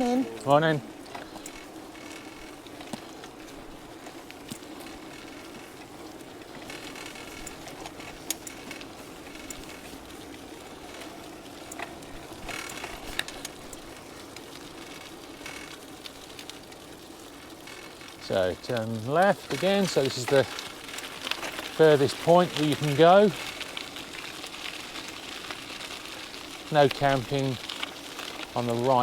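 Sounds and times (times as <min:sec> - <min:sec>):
bicycle freewheel ticking: 0:00.0 - 0:29.0
tyres rolling on a path: 0:00.0 - 0:29.0
small clicks: 0:01.0 - 0:05.7, 0:06.5 - 0:28.8.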